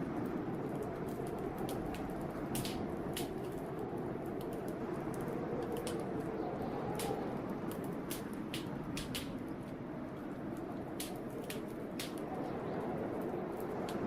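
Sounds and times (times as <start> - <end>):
blizzard wind rushing: 0.0 - 14.0
wood fire crackling: 0.0 - 14.0.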